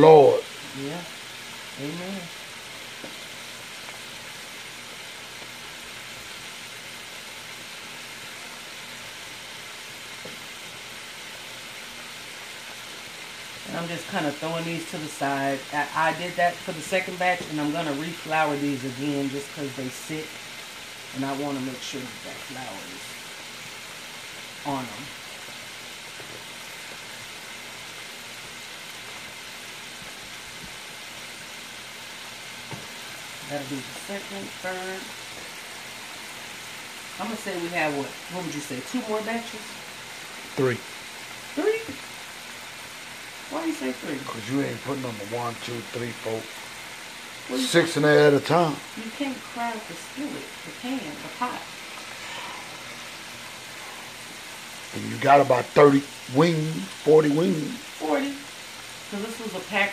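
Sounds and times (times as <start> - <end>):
deep-frying sizzle: 0.0 - 59.9.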